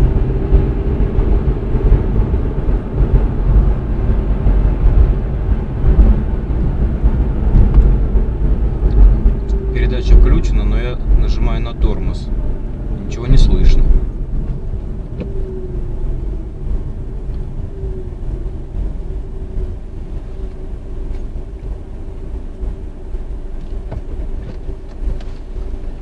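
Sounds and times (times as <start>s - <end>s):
low cabin rumble: 0.0s - 26.0s.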